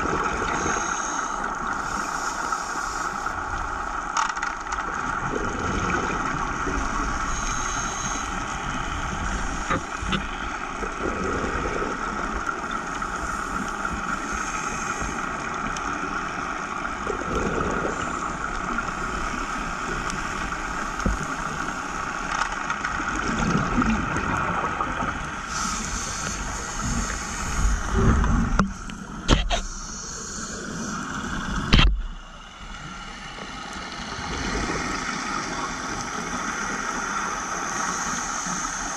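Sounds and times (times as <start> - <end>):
steady underwater hiss: 0.0 - 38.9.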